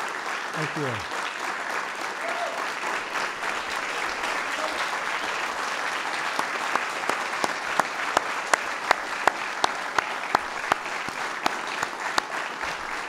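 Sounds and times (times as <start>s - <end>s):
audience applauding: 0.0s - 13.0s
person clapping nearby: 0.0s - 13.0s.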